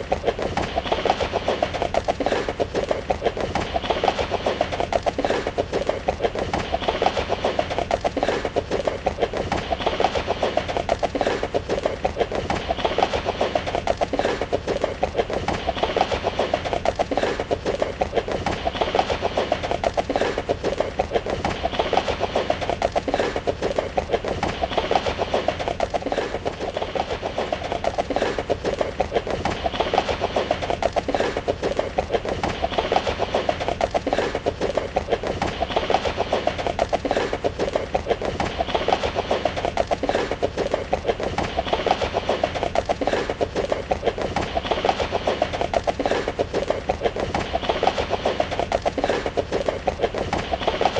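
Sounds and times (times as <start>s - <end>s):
horse hooves galloping: 0.0s - 50.9s.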